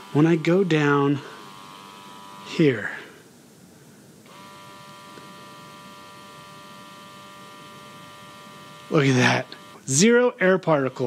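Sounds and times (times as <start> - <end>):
small electric motor humming: 0.0 - 3.1, 4.3 - 10.0, 10.7 - 11.0.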